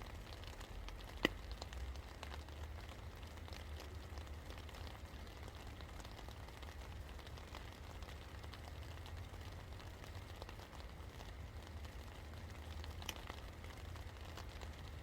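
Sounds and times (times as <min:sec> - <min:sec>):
low rain rumble: 0:00.0 - 0:15.0
raindrops ticking on a surface: 0:00.0 - 0:15.0.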